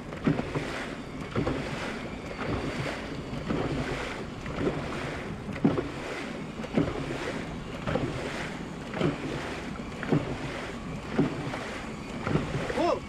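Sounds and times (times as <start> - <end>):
paddle stroke surges: 0.0 - 13.0
water rushing along boat hull: 0.0 - 13.0.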